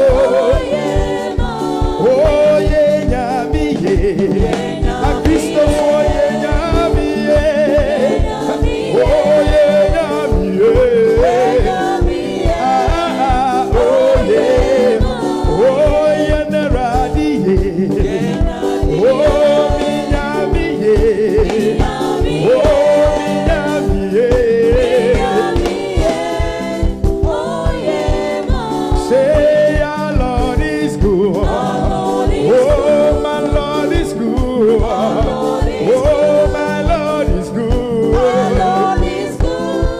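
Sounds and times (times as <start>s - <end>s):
gospel singing over a band: 0.0s - 39.9s.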